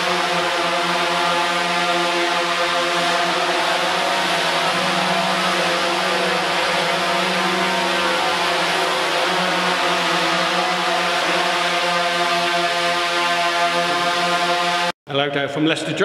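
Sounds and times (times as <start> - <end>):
drone propellers whining: 0.0 - 14.9.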